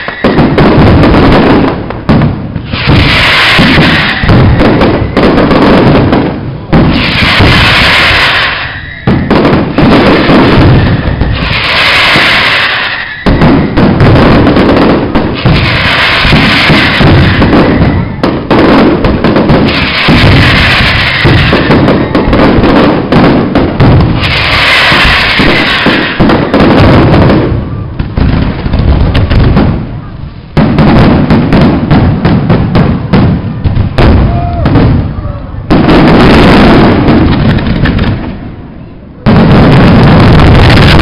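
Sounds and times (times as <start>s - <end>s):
fireworks bangs: 0.0s - 41.0s
fireworks crackling: 0.0s - 41.0s.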